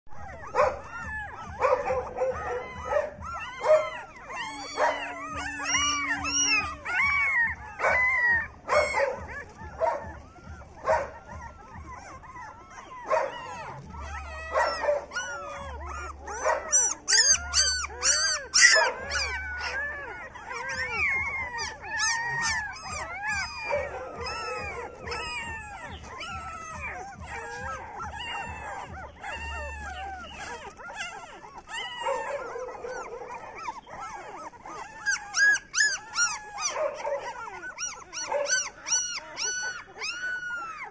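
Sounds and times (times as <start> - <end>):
puppies whining and crying: 0.1 - 40.9.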